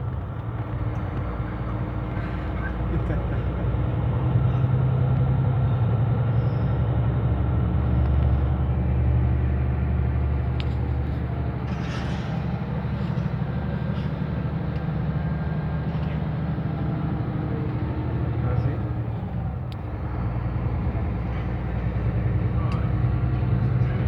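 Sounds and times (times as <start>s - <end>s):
coach diesel engine hum: 0.0s - 24.0s.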